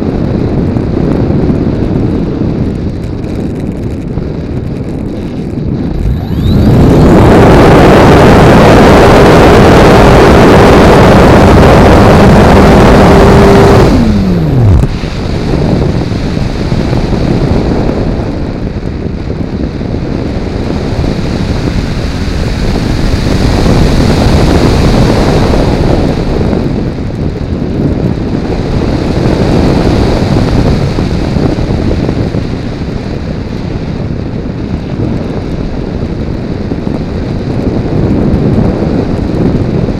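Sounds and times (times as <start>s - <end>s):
model plane propeller whine: 0.0s - 39.9s
wind rushing over camera: 0.0s - 39.9s.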